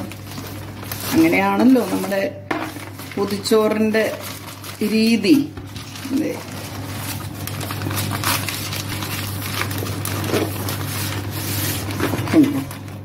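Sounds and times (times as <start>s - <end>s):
newspaper rustling and crinkling: 0.0s - 13.0s.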